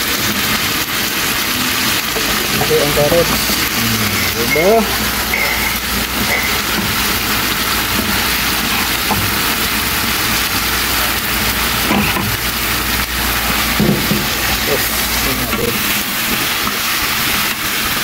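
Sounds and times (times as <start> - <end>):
food frying in a pan: 0.0 - 18.0.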